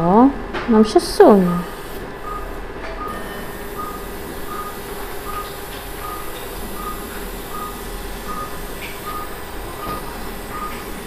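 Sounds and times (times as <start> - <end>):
equipment hum: 0.0 - 11.0
patient monitor beeping: 1.2 - 11.0.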